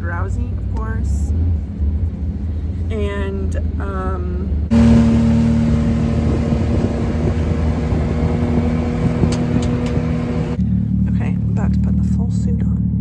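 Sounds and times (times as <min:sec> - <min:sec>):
vehicle engine running: 0:00.1 - 0:13.0.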